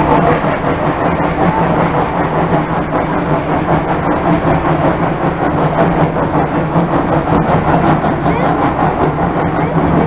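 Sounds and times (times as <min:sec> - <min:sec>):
train cars rolling on rails: 0:00.0 - 0:10.0.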